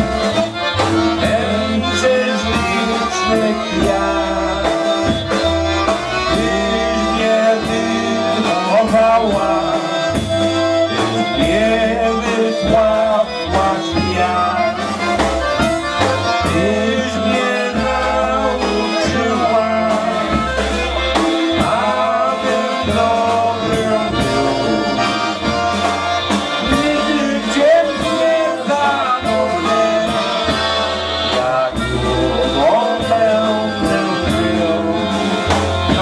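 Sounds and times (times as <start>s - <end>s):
men singing into microphones: 0.0s - 36.0s
polka band playing waltz: 0.0s - 36.0s
steady bass line: 0.0s - 36.0s.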